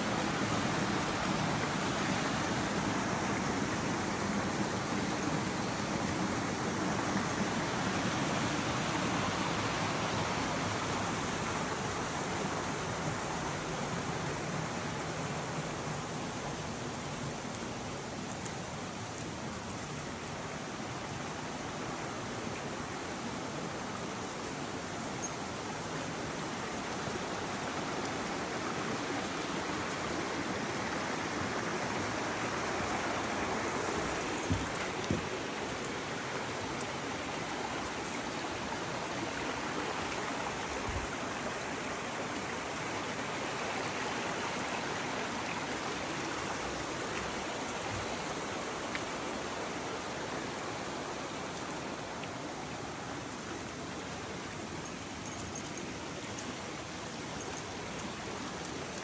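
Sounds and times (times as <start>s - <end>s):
creek flowing over stones: 0.0s - 59.0s.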